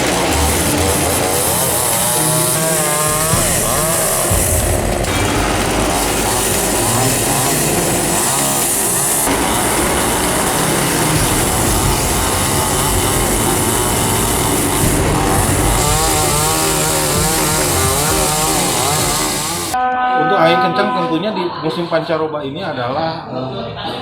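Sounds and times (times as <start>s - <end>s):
chainsaw cutting wood: 0.0s - 19.8s.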